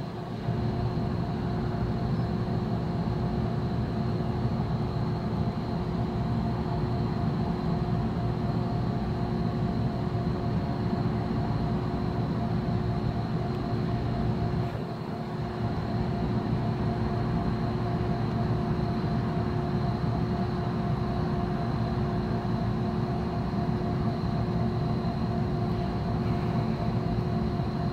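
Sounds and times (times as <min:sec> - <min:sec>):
mechanical hum: 0:00.0 - 0:27.9.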